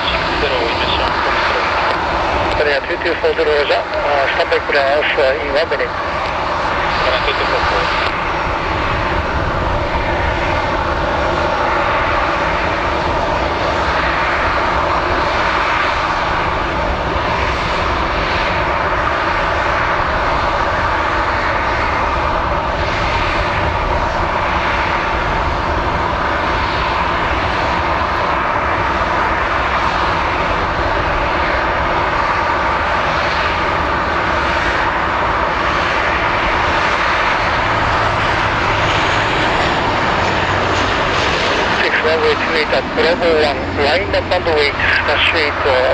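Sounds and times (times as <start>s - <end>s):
aircraft engines running: 0.0s - 45.9s.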